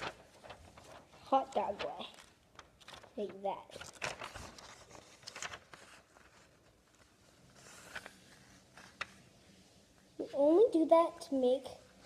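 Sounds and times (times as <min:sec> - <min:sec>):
paper rustling and crackling: 0:00.0 - 0:12.0.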